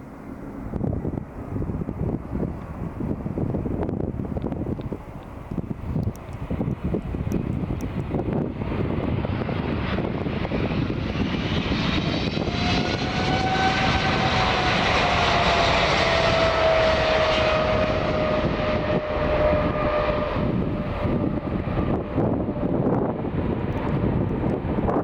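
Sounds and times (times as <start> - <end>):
jet aircraft passing close by: 0.0 - 25.0
jet engine whine falling in pitch: 0.0 - 25.0.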